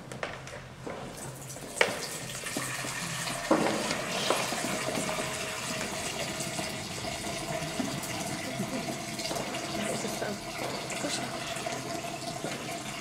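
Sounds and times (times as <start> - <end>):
water pouring and splashing into basin: 1.3 - 13.0.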